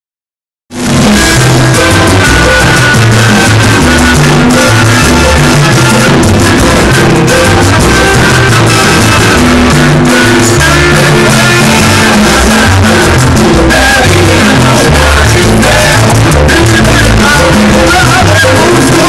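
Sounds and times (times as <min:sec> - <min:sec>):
salsa band through speakers: 0:00.7 - 0:19.0
man singing: 0:01.6 - 0:19.0.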